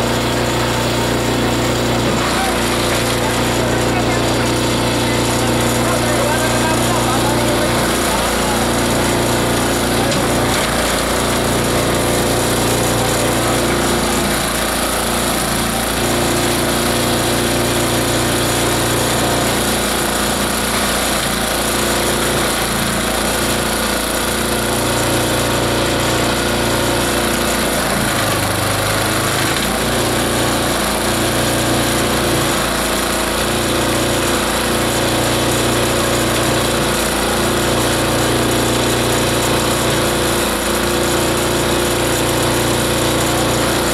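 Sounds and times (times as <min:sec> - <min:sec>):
shredder grinding: 0:00.0 - 0:43.9.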